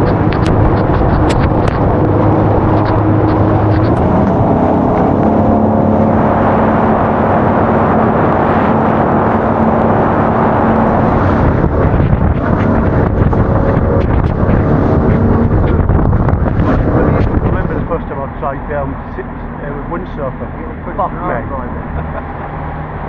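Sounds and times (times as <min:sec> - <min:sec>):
boat engine running: 0:00.0 - 0:23.0
rush of wind and water: 0:00.0 - 0:23.0.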